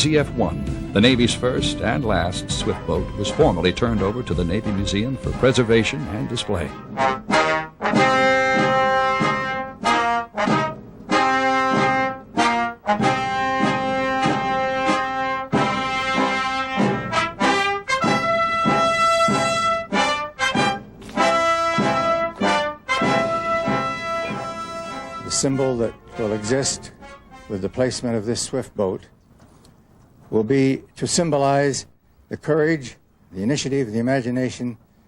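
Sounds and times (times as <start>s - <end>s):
brass melody of held notes: 0.0s - 28.4s.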